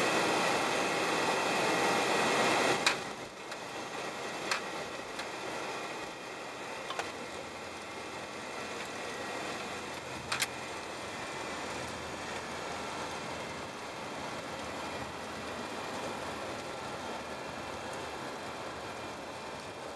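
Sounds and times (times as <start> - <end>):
aircraft engine and airflow rush: 0.0 - 19.9.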